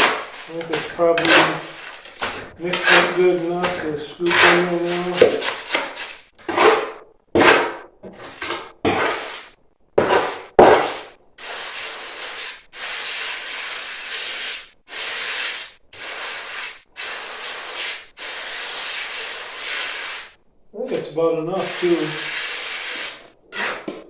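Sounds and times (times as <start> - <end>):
hand tool scraping gritty mix: 0.0 - 20.3, 20.9 - 24.0.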